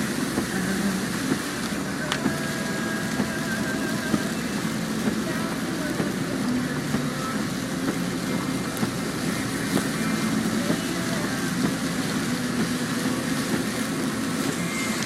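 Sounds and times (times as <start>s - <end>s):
car running with road noise: 0.0s - 15.0s
heavy rain on a car: 0.0s - 15.0s.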